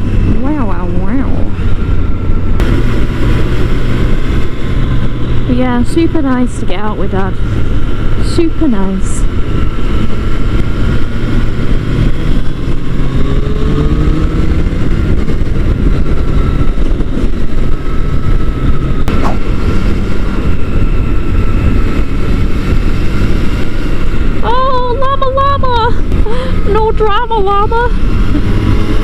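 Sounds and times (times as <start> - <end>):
motorcycle engine running: 0.0 - 29.0
wind rush over microphone: 0.0 - 29.0.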